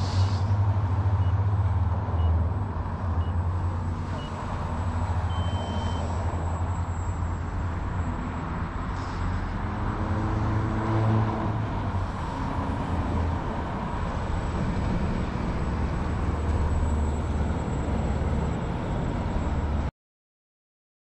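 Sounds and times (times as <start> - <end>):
bus driving past: 0.0 - 19.9
road traffic rumble: 0.0 - 19.9.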